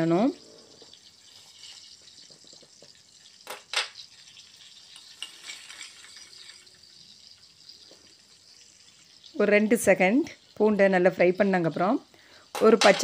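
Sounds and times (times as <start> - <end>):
garlic sizzling in butter: 0.0 - 13.0.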